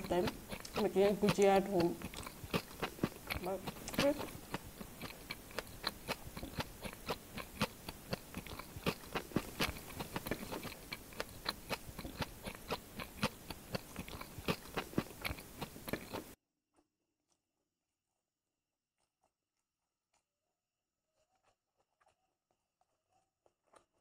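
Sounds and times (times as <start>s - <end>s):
crunchy pastry chewing: 0.0s - 16.4s, 19.0s - 24.0s.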